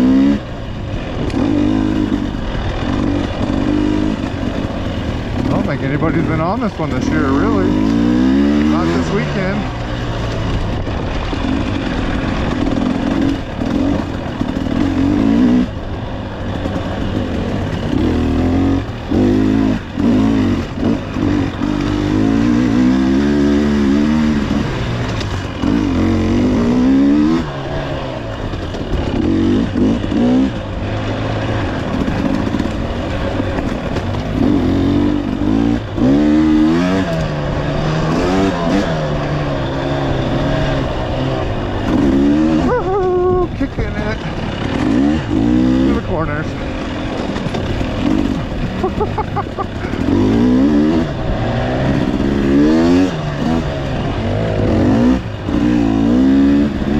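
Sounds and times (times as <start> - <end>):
bike rattling: 0.0 - 56.9
dirt bike engine revving: 0.0 - 56.9.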